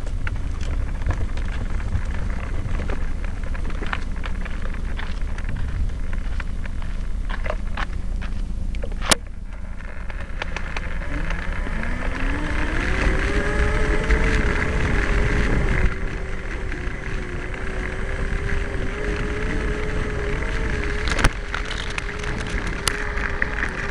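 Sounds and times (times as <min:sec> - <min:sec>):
vehicle motor whining: 0:00.0 - 0:23.9
wind and rough ground rumble: 0:00.0 - 0:23.9.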